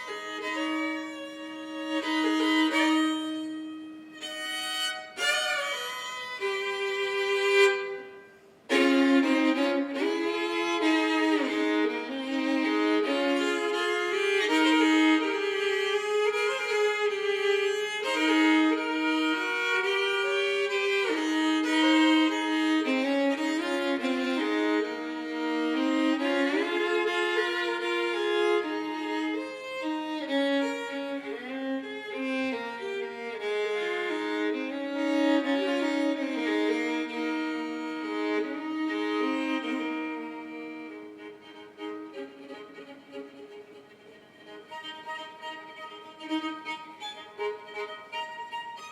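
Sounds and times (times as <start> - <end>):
solo fiddle melody: 0.0 - 48.9.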